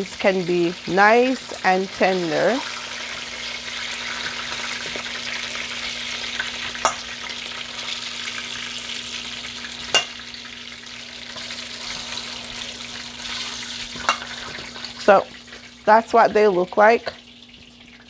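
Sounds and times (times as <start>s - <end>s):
oil sizzling in skillet: 0.0s - 18.0s.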